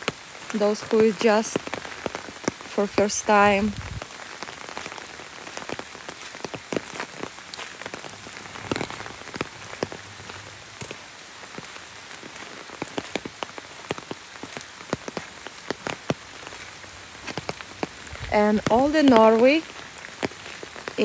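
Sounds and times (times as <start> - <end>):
raindrops ticking close by: 0.0 - 21.0
steady rain hiss: 0.0 - 21.0.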